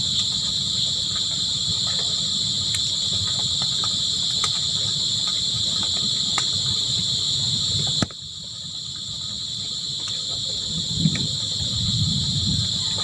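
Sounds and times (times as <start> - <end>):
crickets chirring: 0.0 - 13.0
low uneven rumble: 0.0 - 13.0.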